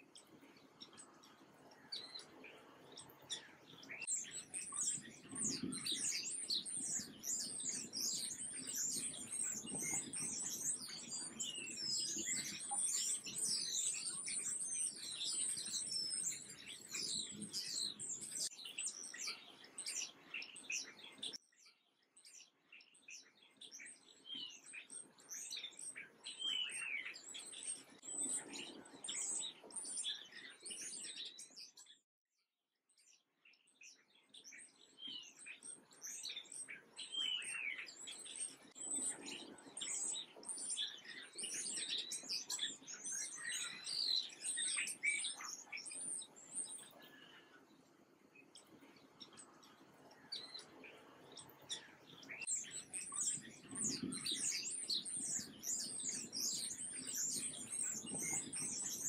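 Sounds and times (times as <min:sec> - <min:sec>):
sparrows chirping: 0:00.0 - 0:32.0, 0:33.0 - 0:59.0.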